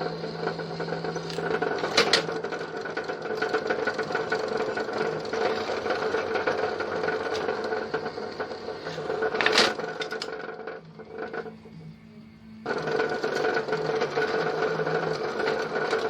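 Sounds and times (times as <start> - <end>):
stationary engine clattering: 0.0 - 11.8, 12.6 - 16.0.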